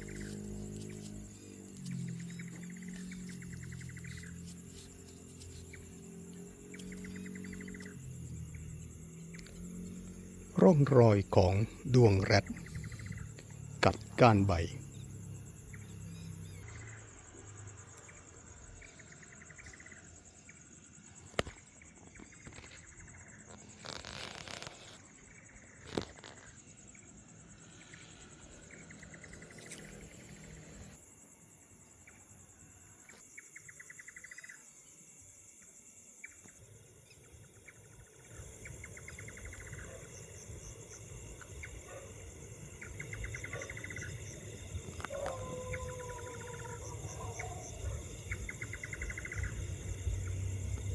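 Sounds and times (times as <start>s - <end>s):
crickets chirping: 0.0s - 50.9s
high-pitched insect trill: 0.0s - 50.9s.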